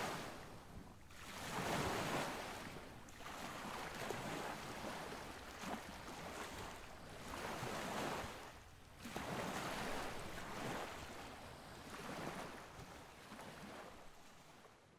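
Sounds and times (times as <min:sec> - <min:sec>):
waves washing in: 0:00.0 - 0:14.6.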